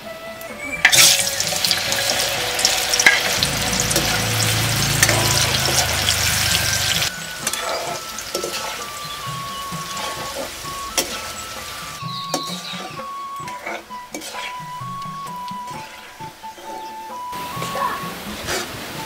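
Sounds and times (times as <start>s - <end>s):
oil sizzling and crackling: 0.8s - 19.0s
metal spatula scraping wok: 0.9s - 17.8s.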